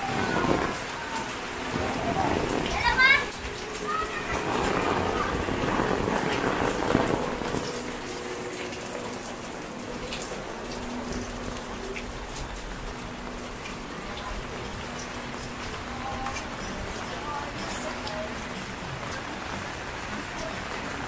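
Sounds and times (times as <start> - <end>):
rain hiss: 0.0 - 21.0
raindrops tapping and dripping: 0.0 - 21.0.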